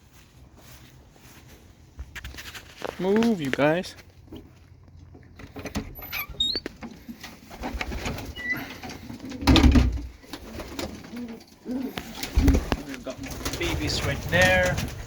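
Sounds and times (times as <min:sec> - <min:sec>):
pigeons shuffling and rustling: 0:00.0 - 0:15.0.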